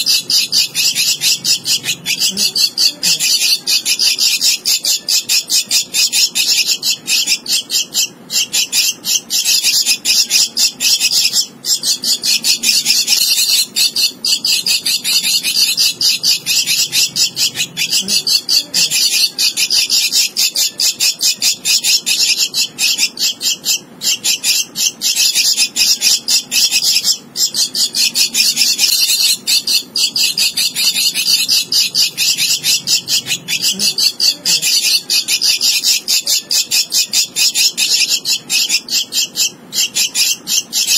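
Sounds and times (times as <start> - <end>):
nestling begging calls: 0.0 - 40.9.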